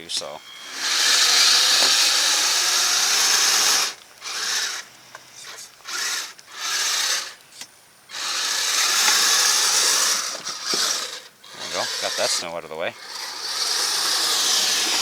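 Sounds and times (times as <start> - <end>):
toy electric motor whirring: 0.0 - 15.0.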